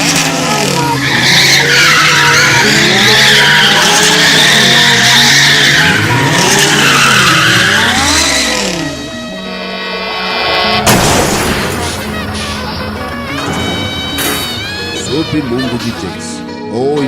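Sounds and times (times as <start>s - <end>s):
car engine revving: 0.0s - 16.4s
car tyres squealing: 0.0s - 16.4s.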